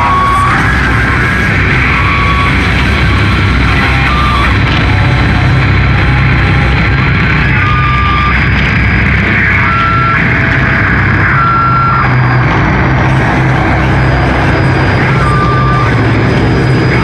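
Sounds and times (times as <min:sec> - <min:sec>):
distorted guitars and bass drone: 0:00.0 - 0:17.0.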